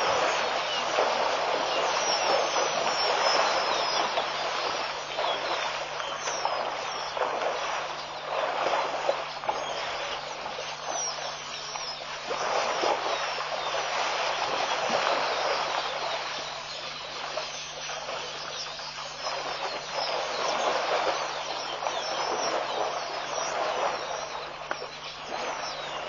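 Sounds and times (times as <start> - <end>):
elephants splashing in water: 0.0 - 26.0.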